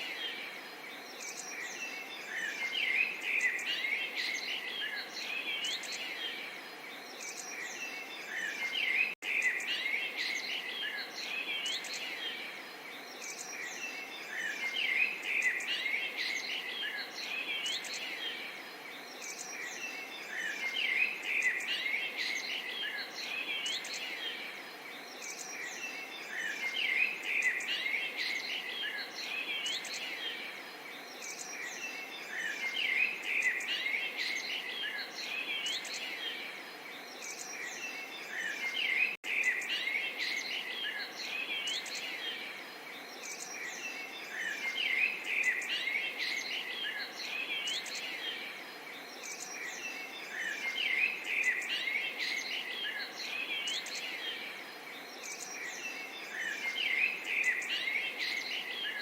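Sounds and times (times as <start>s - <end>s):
faint babble of flowing water: 0.0s - 59.0s
songbirds chirping and twittering: 0.0s - 59.0s.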